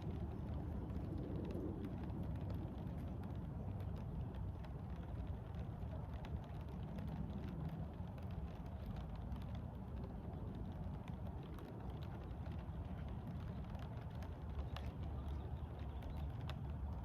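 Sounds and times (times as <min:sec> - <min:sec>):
low rain rumble: 0:00.0 - 0:17.0
raindrops ticking: 0:00.0 - 0:17.0.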